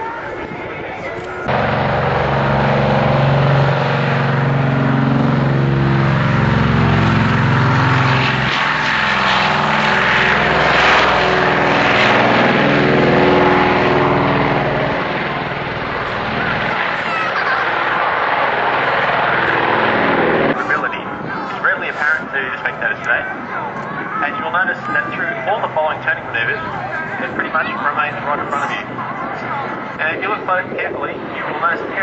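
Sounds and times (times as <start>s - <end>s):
propeller airplane engine drone: 1.2s - 32.0s.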